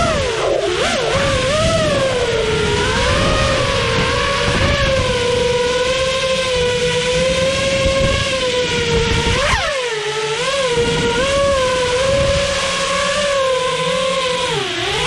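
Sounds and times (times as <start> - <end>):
low wind rumble: 0.0 - 9.7, 10.6 - 15.0
drone motors high whine: 0.0 - 15.0.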